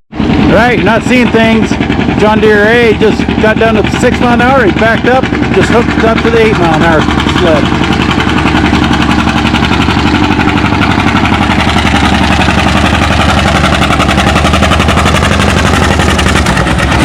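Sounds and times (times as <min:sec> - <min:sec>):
tractor engine pulsing under load: 0:00.1 - 0:17.0.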